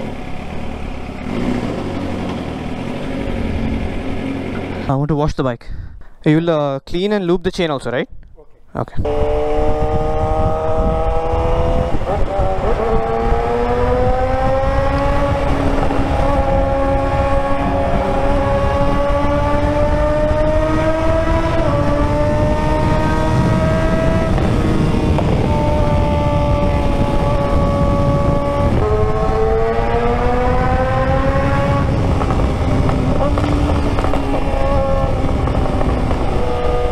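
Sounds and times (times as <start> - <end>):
motorcycle engine running at speed: 0.0 - 4.9, 9.0 - 36.9
wind and road noise: 0.0 - 36.9.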